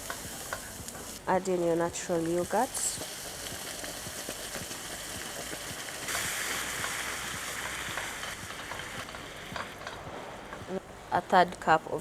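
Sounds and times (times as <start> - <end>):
onions sizzling in oil: 0.0 - 11.7.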